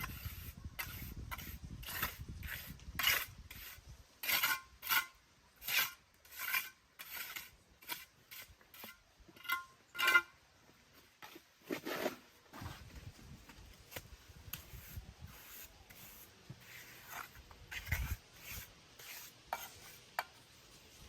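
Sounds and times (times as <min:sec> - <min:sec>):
scraping strokes: 0:00.0 - 0:10.3, 0:13.8 - 0:21.0.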